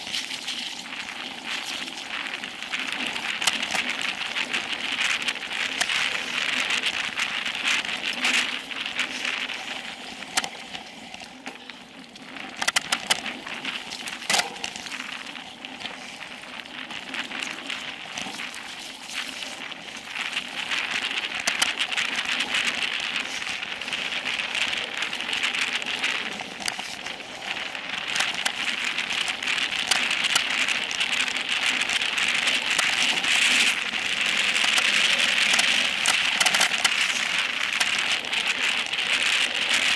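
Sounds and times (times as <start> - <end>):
bike clicking and rattling over bumps: 0.0 - 39.9
bike tyres hissing on dirt: 0.0 - 39.9.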